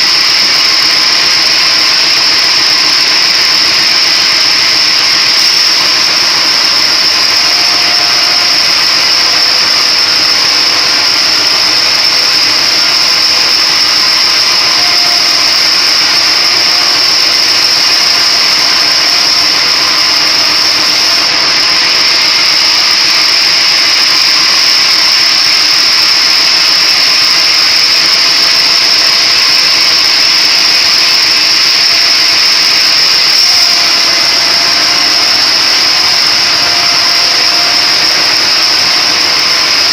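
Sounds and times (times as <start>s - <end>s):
high steady whine: 0.0s - 39.9s
splitting machine running: 0.0s - 39.9s.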